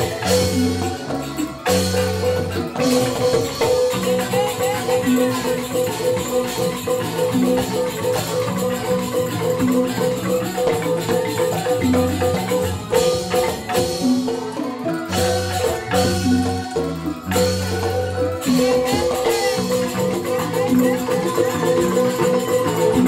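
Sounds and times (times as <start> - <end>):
bamboo xylophones playing: 0.0 - 23.0
percussion: 0.0 - 23.0.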